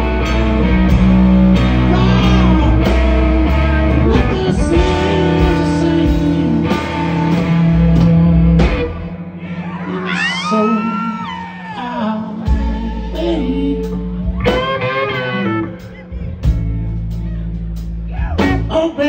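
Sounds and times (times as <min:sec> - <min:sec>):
blues band playing: 0:00.0 - 0:19.0
electric guitar lead: 0:00.0 - 0:19.0.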